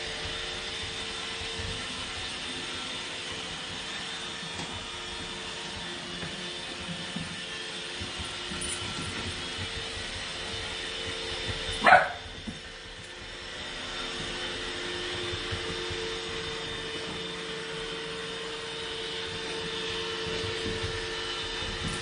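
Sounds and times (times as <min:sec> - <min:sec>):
robot vacuum motor humming: 0:00.0 - 0:22.0.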